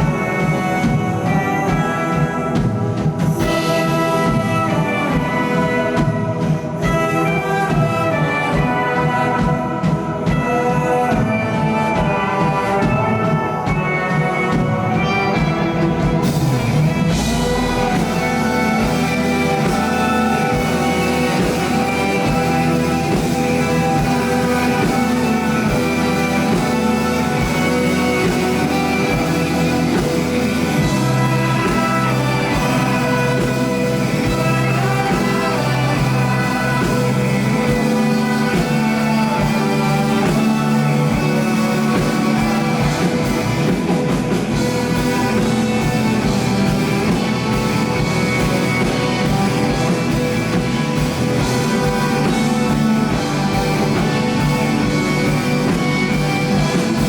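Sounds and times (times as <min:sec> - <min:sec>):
guitars: 0:00.0 - 0:57.0
rock band playing: 0:00.0 - 0:57.0
steady low drum beat: 0:00.0 - 0:57.0.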